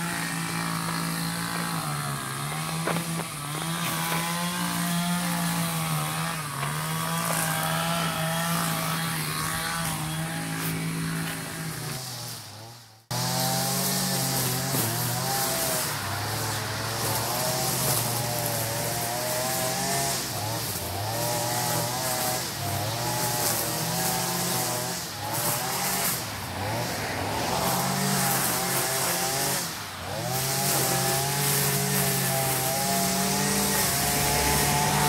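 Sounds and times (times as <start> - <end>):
lawn mower engine: 0.0 - 35.0
string trimmer engine: 0.0 - 35.0.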